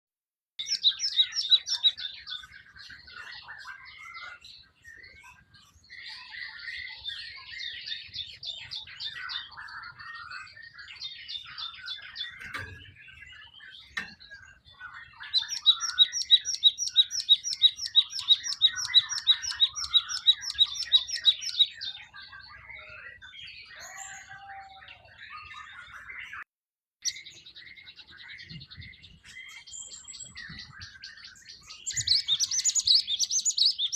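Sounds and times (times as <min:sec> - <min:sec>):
songbird chirping: 0:00.6 - 0:33.9.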